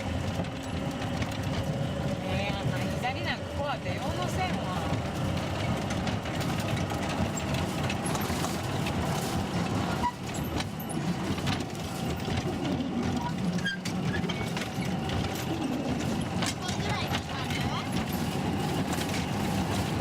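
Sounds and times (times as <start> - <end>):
small train rumbling on track: 0.0 - 20.0
wheels clicking and rattling: 0.0 - 20.0.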